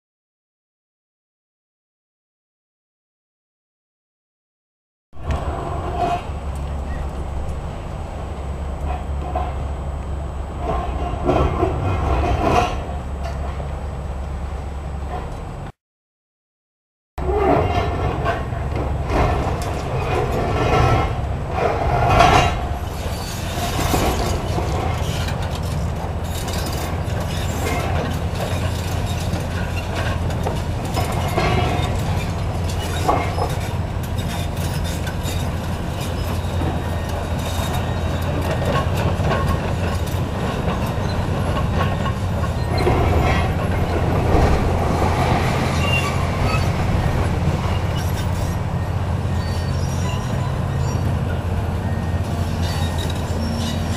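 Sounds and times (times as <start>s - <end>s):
diesel engine running under load: 5.2s - 15.7s, 17.8s - 53.9s.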